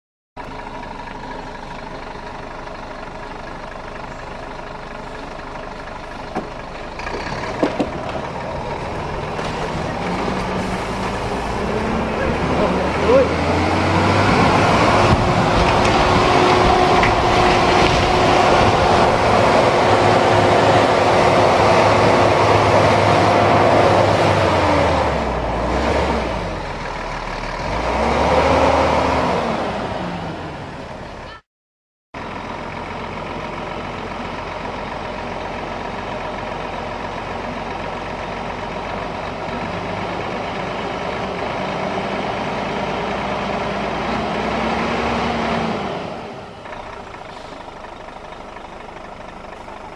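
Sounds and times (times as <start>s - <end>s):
truck diesel engine running: 0.4s - 31.4s, 32.2s - 49.9s.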